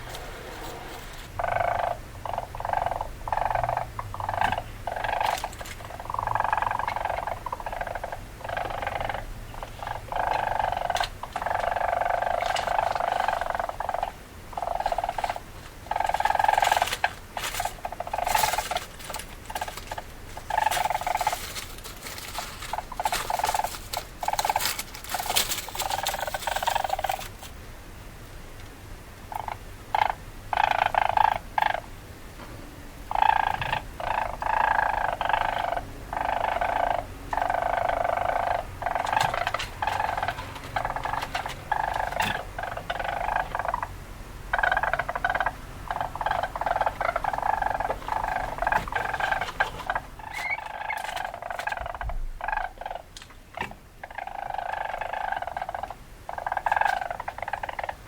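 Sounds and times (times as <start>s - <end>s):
weasel chattering calls: 1.3s - 27.4s, 29.3s - 31.9s, 33.1s - 58.0s.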